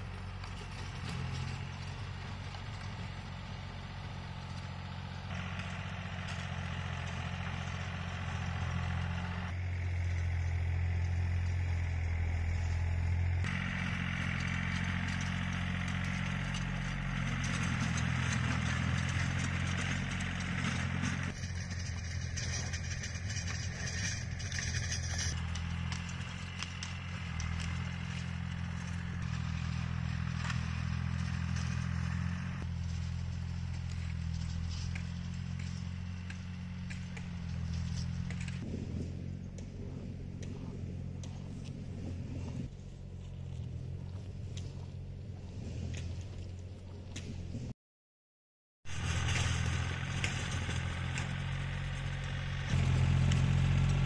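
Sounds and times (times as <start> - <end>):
tiller rattle: 0.0 - 47.6, 48.9 - 54.0
tractor engine running: 0.0 - 47.7, 48.9 - 54.0.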